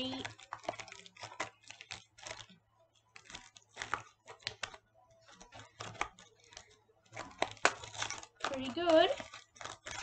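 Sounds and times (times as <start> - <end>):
toy package crinkling and tearing: 0.0 - 10.0.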